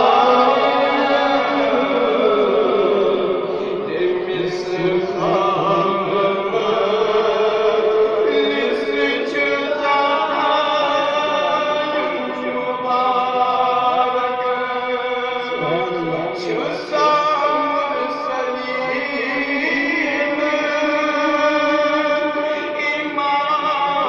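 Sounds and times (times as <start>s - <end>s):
man chanting: 0.0s - 24.0s.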